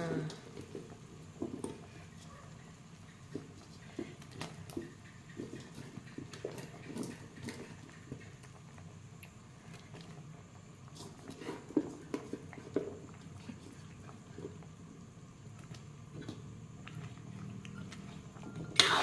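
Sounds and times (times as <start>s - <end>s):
pot simmering: 0.0s - 19.0s.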